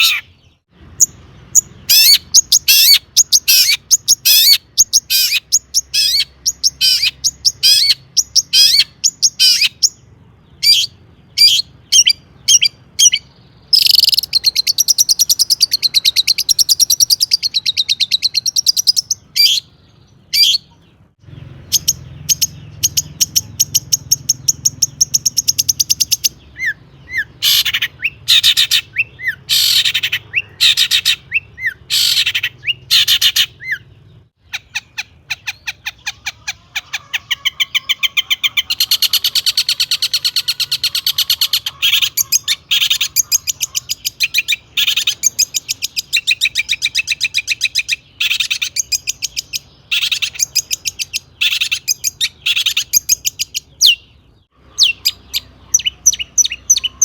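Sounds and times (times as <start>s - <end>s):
bird singing fast chattering trills: 0.0s - 57.0s.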